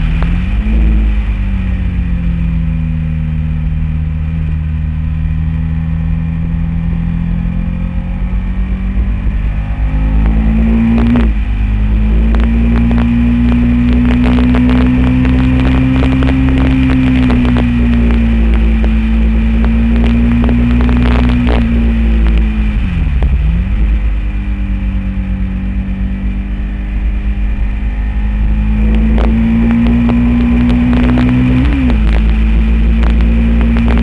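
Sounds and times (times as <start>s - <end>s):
motorcycle engine at high revs: 0.0s - 34.0s
wind rush: 5.6s - 34.0s.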